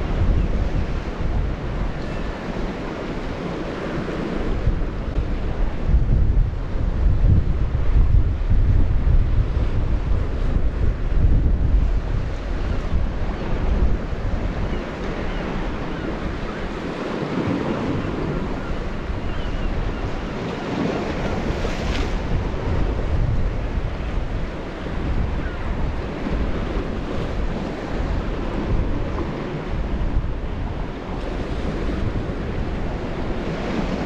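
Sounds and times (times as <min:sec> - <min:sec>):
sea waves washing against rocks: 0:00.0 - 0:34.0
wind buffeting microphone: 0:00.0 - 0:34.0.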